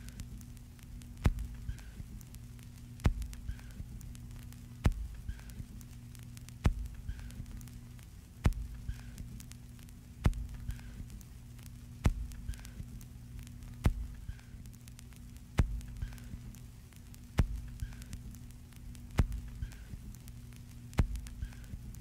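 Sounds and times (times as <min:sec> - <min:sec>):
faint ticks: 0:00.0 - 0:22.0
sharp clicks: 0:00.0 - 0:22.0
steady low hum: 0:00.0 - 0:22.0.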